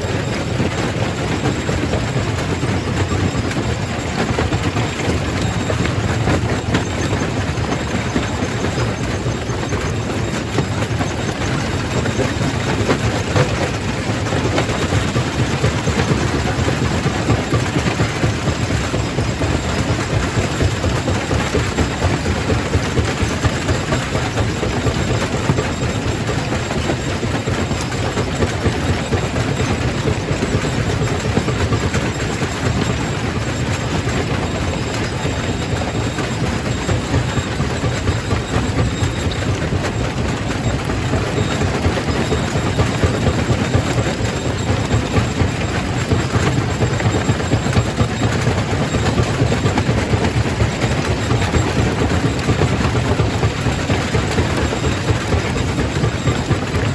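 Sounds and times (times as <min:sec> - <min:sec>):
rock crusher running: 0:00.0 - 0:56.9.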